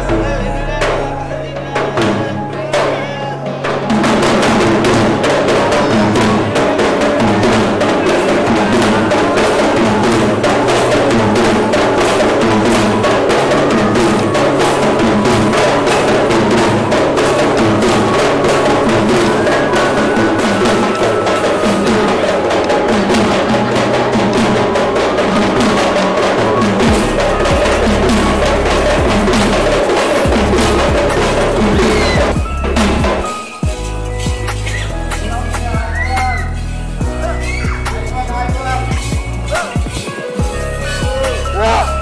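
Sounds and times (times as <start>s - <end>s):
hand drums played fast: 0.0s - 42.0s.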